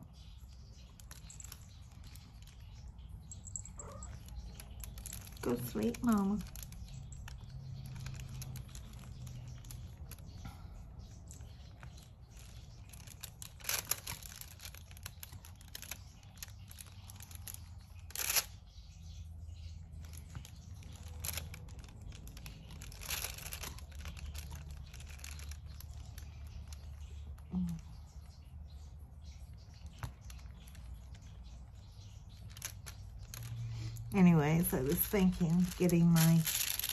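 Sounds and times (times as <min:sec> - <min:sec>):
plastic film crinkling: 0:00.2 - 0:18.8, 0:19.9 - 0:28.0, 0:28.8 - 0:36.9.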